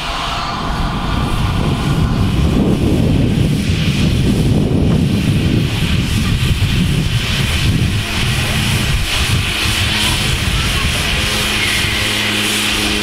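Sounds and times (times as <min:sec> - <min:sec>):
steady hum: 0:00.0 - 0:13.0
train rumbling: 0:00.0 - 0:13.0.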